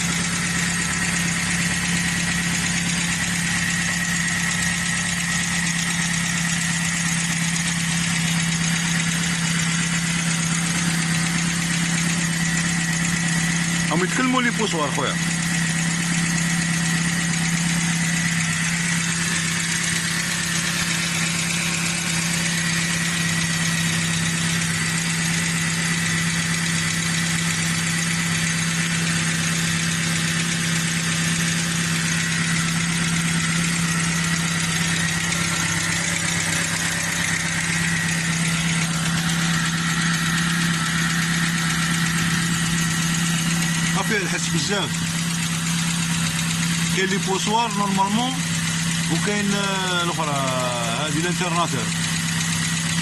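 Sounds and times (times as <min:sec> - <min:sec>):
petrol engine idling: 0:00.0 - 0:53.0.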